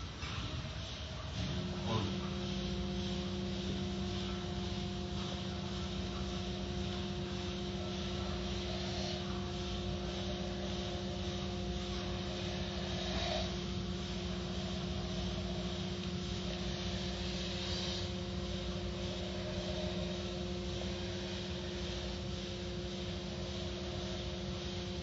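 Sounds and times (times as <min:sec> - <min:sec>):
car wash machine hum: 0:01.4 - 0:25.0.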